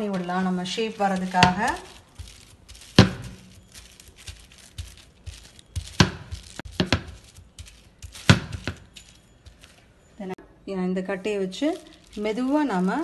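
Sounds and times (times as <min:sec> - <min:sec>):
plastic crinkling: 0:00.0 - 0:10.0, 0:11.5 - 0:13.0.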